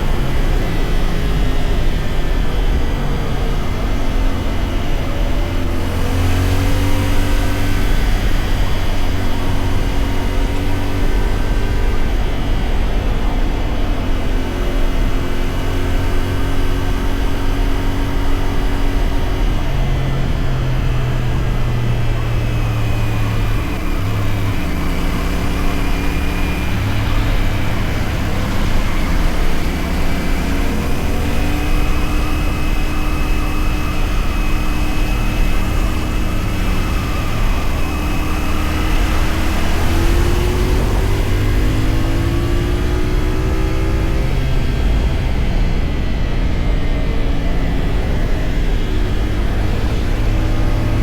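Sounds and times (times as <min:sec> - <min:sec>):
motorcycle engine changing gears: 0:00.0 - 0:51.0.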